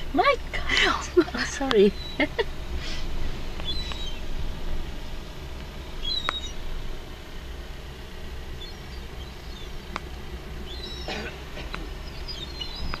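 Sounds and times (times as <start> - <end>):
wind rumble on microphone: 0.0 - 11.0, 11.7 - 13.0
gulls calling: 0.0 - 13.0.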